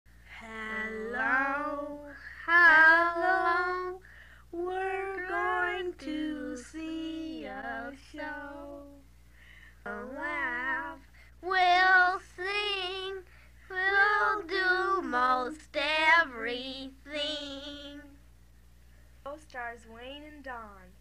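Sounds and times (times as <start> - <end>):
low steady hum: 0.1 - 21.0
young person singing: 0.2 - 9.1, 9.8 - 18.2.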